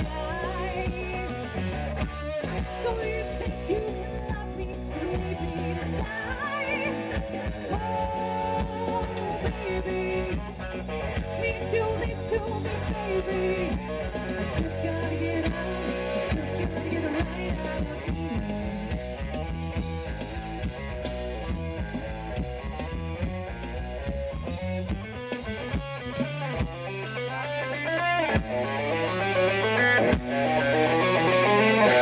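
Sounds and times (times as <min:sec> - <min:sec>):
electric guitar: 0:00.0 - 0:32.0
live rock band playing: 0:00.0 - 0:32.0.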